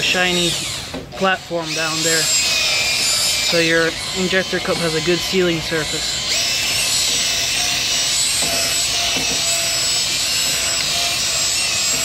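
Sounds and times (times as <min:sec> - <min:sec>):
drill motor whine: 0:00.0 - 0:12.0
wire brush scrubbing metal: 0:00.0 - 0:12.0.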